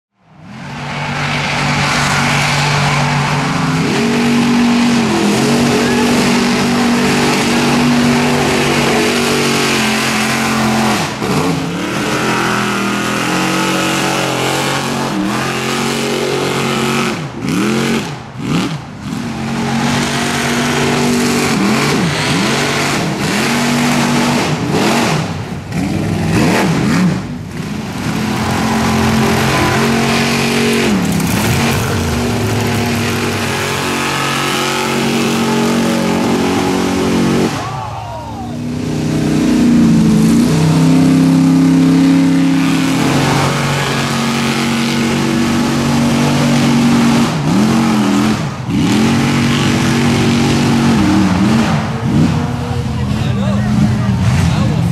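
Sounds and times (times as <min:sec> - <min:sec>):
truck engine revving: 0:00.4 - 0:54.9.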